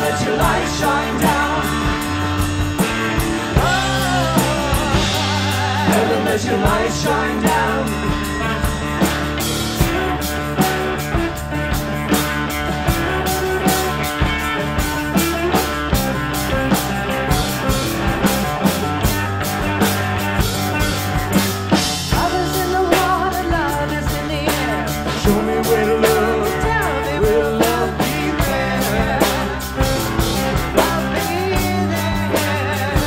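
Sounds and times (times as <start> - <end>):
bass guitar: 0.0 - 33.0
drum kit steady beat: 0.0 - 33.0
electric guitars: 0.0 - 33.0.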